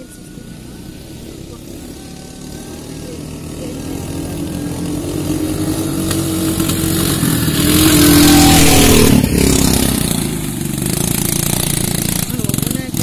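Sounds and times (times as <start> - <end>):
quad bike engine revving past: 0.0 - 13.0
quad engines running at low speed: 0.0 - 13.0.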